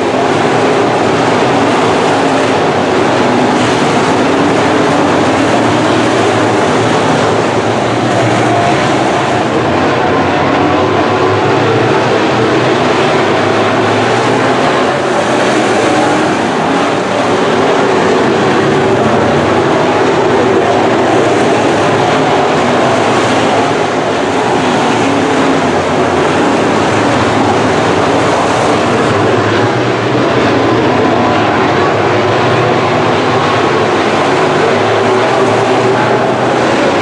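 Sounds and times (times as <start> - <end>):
race car engines on dirt track: 0.0 - 37.0.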